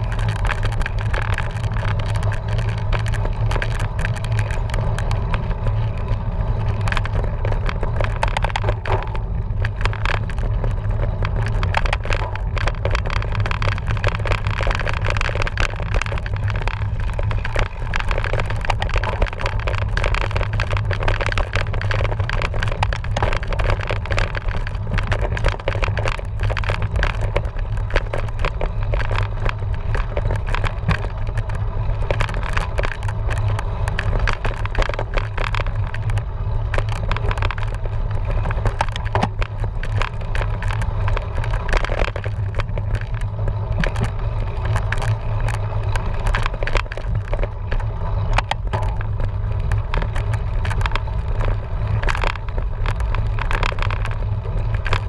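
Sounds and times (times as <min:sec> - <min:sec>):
low rumble: 0:00.0 - 0:55.0
rattling and clicking: 0:00.0 - 0:55.0.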